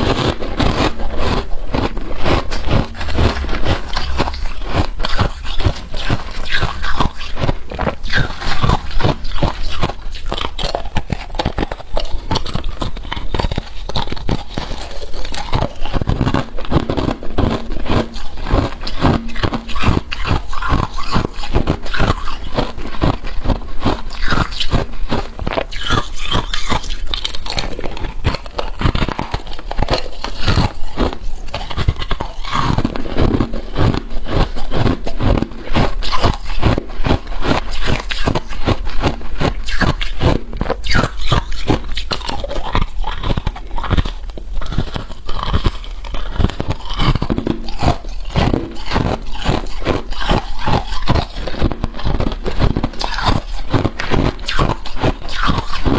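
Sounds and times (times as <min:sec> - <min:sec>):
frost crunching and scraping: 0:00.0 - 0:55.9.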